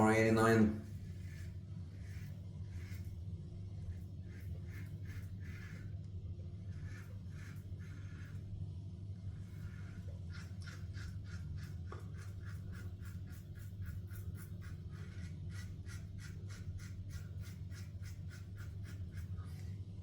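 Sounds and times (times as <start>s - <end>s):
razor scratching stubble: 0.0s - 3.2s, 3.8s - 6.0s, 6.7s - 8.5s, 9.4s - 19.6s.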